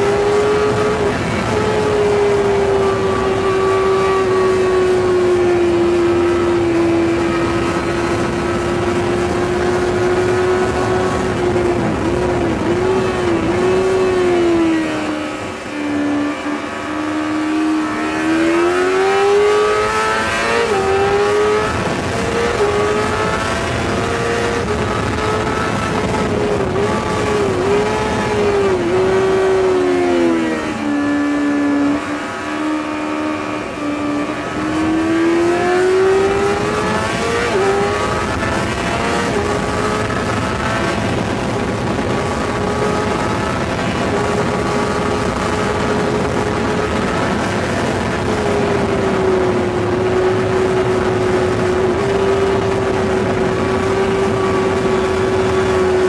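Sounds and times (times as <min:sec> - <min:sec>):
motorcycle engine at high revs: 0:00.0 - 0:56.0
rushing wind noise: 0:00.0 - 0:56.0.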